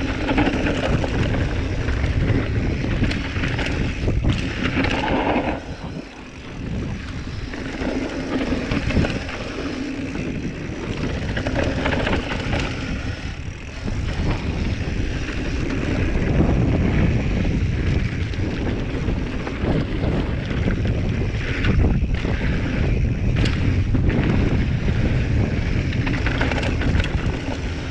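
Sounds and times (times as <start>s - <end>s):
mountain bike rattling on dirt trail: 0.0s - 27.9s
wind on microphone: 0.0s - 27.9s.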